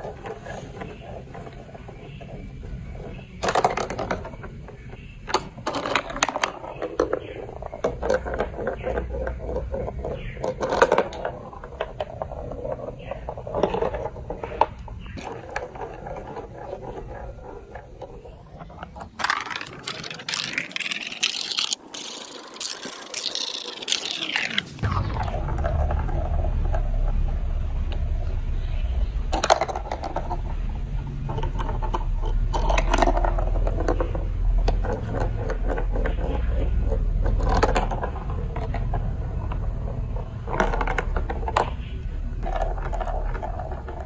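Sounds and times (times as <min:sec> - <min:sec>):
marbles clicking on plastic pieces: 0:00.0 - 0:24.9, 0:31.2 - 0:44.0
marbles rolling and clattering: 0:00.0 - 0:44.0
rolling whir with gliding pitch: 0:00.0 - 0:44.0.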